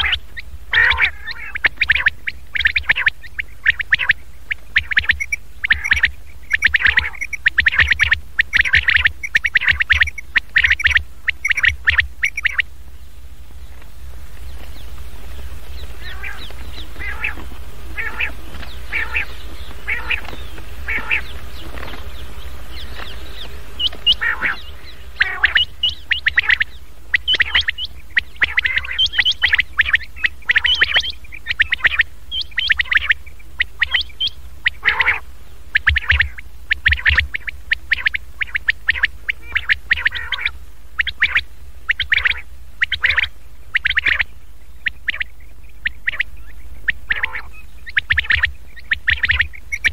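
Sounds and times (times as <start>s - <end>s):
quail calls: 0.0s - 12.7s, 13.6s - 49.9s
steady low hum: 0.0s - 49.9s.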